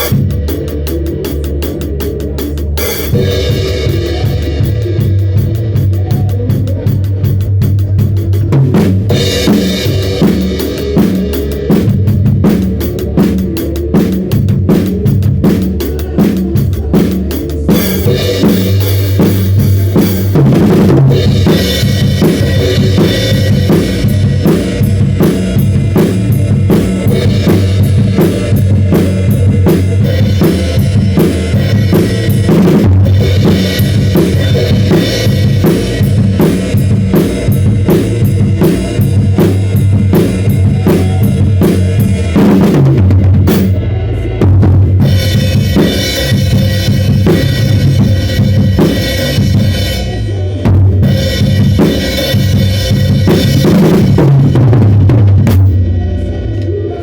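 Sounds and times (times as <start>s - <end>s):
full-band worship song: 0.0s - 54.4s
drum kit beat: 0.0s - 57.0s.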